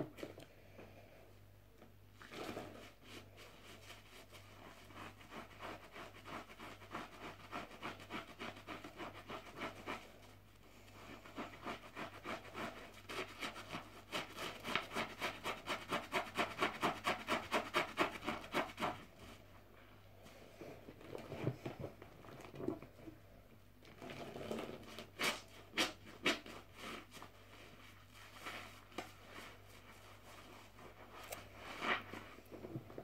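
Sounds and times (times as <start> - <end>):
soapy sponge scrubbing: 2.2 - 19.5, 23.9 - 33.0.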